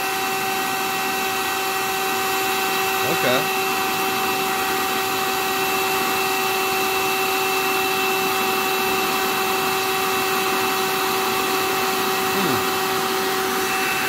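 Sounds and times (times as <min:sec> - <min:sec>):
hand vacuum motor whine: 0:00.0 - 0:14.0.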